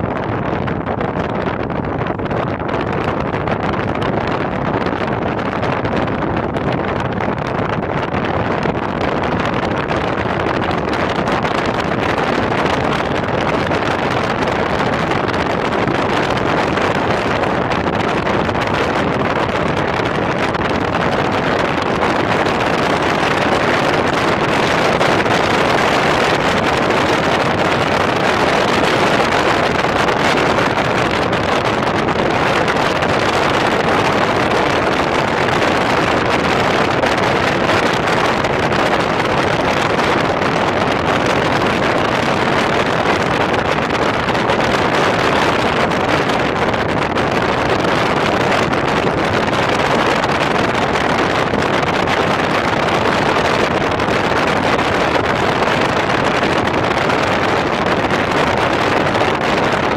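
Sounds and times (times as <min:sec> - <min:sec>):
wind buffeting microphone: 0:00.0 - 0:59.9
wind rushing: 0:00.0 - 0:59.9
road noise: 0:07.8 - 0:59.9.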